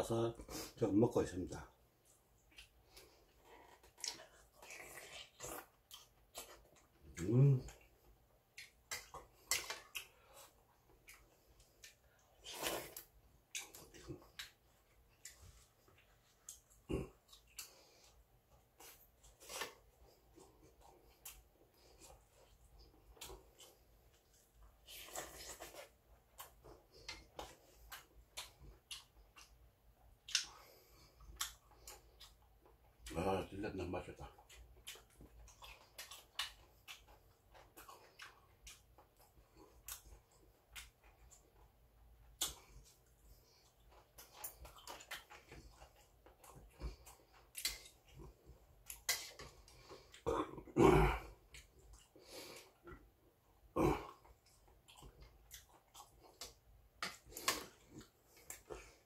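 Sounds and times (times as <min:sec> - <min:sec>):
chewing with lips smacking: 0:01.7 - 0:59.0.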